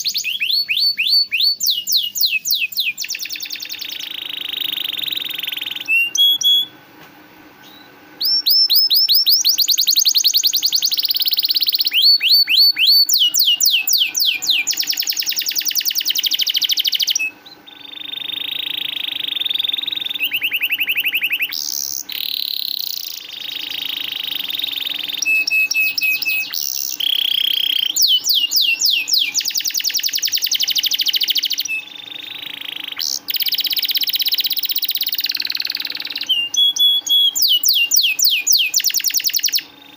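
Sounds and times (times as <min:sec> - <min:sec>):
canary singing trills: 0:00.0 - 0:06.8, 0:07.6 - 0:39.9.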